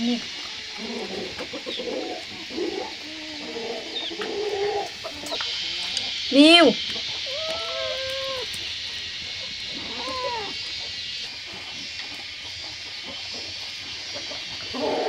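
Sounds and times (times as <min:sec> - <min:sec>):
steady high hiss: 0:00.0 - 0:15.0
short pitched animal calls: 0:00.7 - 0:13.5.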